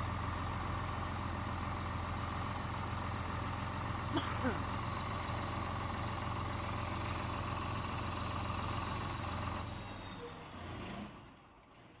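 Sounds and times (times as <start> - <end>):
diesel generator engine running: 0.0 - 11.8.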